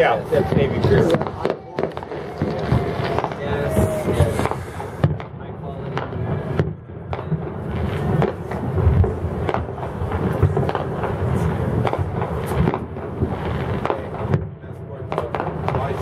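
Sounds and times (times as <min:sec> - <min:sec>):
distant fireworks bangs and pops: 0:00.0 - 0:16.0.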